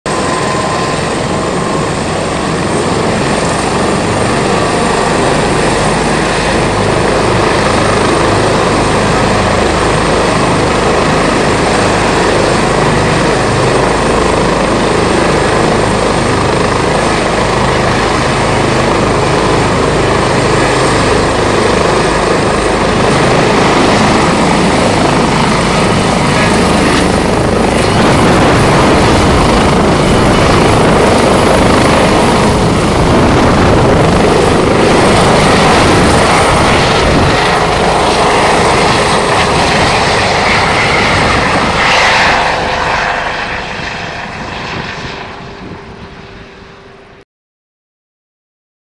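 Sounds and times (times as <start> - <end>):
helicopter turbine and rotor noise: 0.0 - 47.2
high turbine whine: 0.1 - 47.2.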